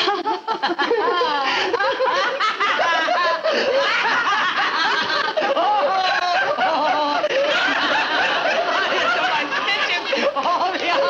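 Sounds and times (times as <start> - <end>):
men laughing: 0.0 - 11.0
woman laughing exaggeratedly: 0.0 - 11.0.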